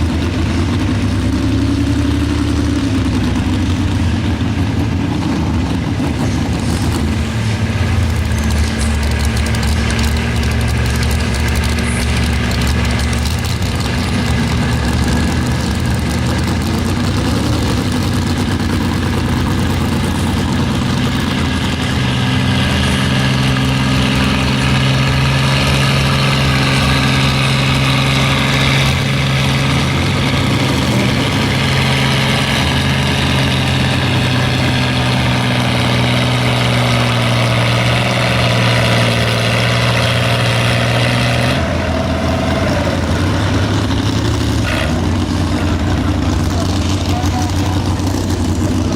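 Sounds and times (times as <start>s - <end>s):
tractor engine running loudly: 0.0s - 48.9s.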